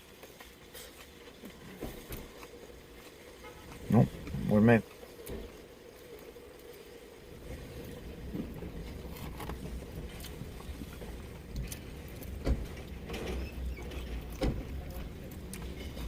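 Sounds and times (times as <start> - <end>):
motor vehicle rumble: 1.6 - 16.0.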